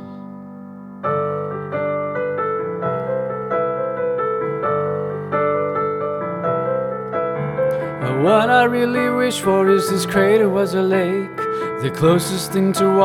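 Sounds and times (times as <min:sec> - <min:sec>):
piano playing notes and chords: 0:00.0 - 0:13.0.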